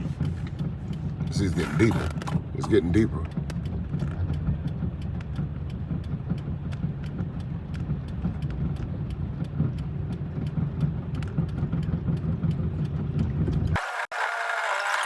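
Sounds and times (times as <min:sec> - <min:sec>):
car driving through floodwater: 0:00.0 - 0:13.7.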